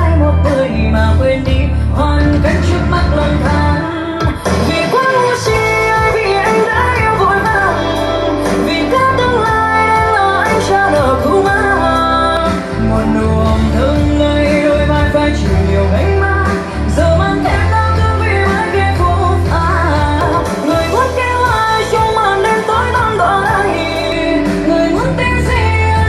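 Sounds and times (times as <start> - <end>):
pop song through speakers: 0.0 - 26.0.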